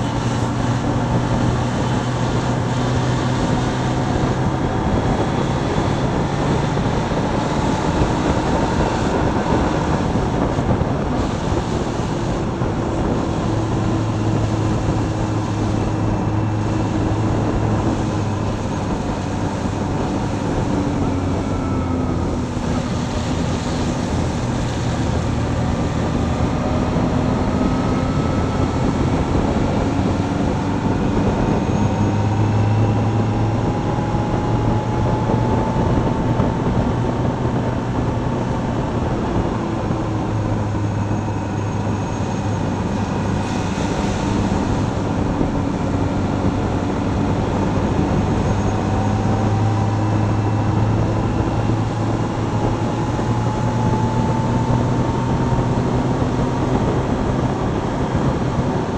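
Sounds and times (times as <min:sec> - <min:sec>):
motorcycle engine running: 0:00.0 - 0:58.9
tyres on wet road: 0:00.0 - 0:58.9
wind noise: 0:00.0 - 0:58.9.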